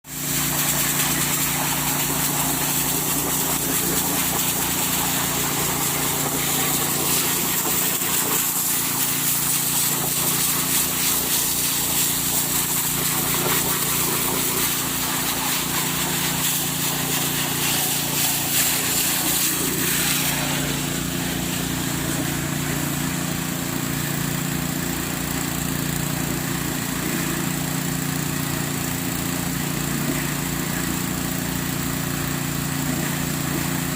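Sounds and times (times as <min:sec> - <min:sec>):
water pump engine running: 0:00.0 - 0:33.9.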